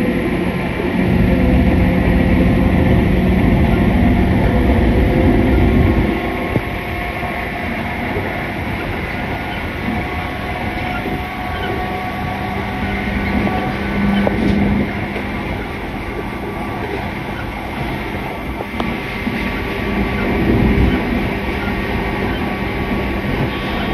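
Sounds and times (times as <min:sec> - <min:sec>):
train motors and wheels rumbling: 0:00.0 - 0:23.9.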